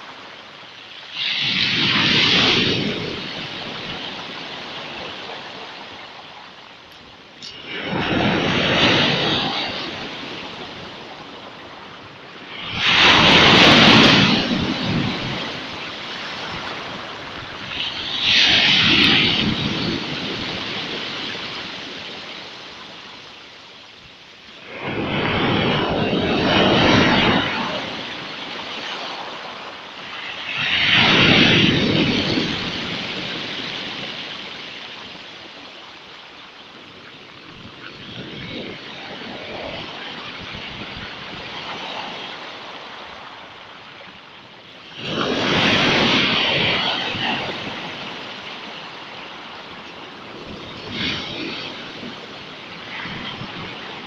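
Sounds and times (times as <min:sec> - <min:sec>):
waves breaking on pebble beach: 0:00.0 - 0:54.0.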